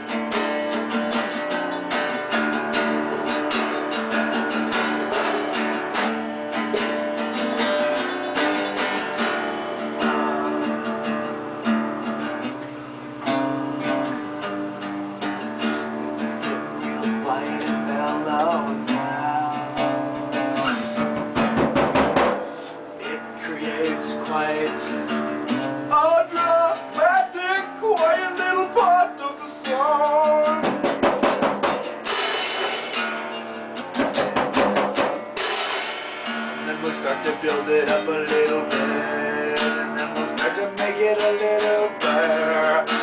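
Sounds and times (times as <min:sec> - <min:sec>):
guitar strumming: 0:00.0 - 0:43.0.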